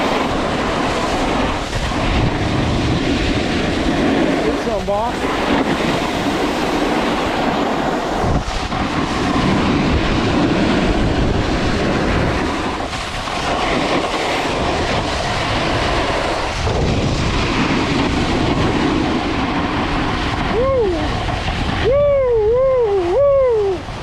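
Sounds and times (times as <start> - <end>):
skis scraping over snow: 0.0 - 20.5
wind rushing on microphone: 0.0 - 24.0.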